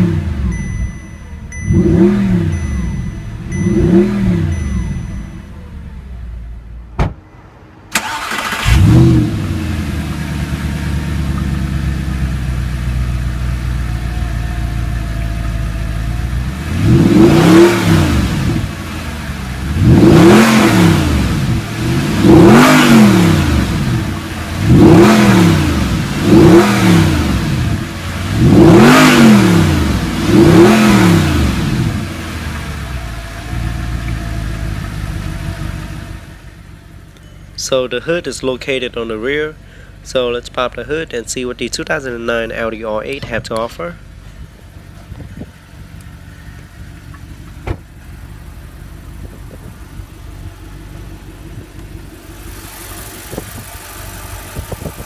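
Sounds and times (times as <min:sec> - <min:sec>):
car engine starting and revving: 0:00.0 - 0:37.0, 0:41.8 - 0:55.0.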